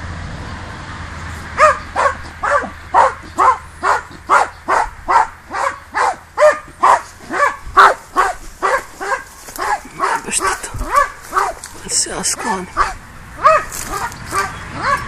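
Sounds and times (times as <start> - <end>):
small dog barking: 1.6 - 15.0.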